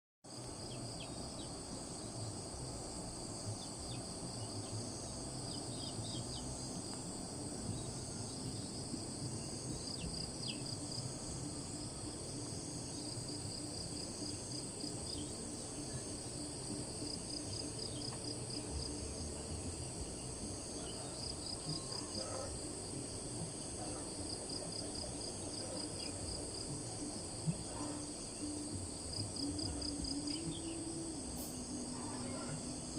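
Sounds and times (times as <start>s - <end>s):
insects chirring: 0.3s - 32.9s.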